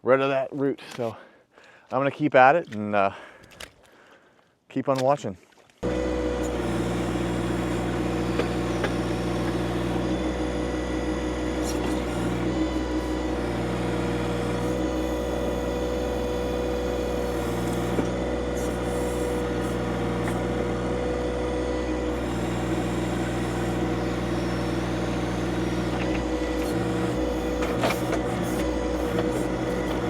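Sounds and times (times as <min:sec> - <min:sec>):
tractor diesel engine running: 0:05.8 - 0:30.0.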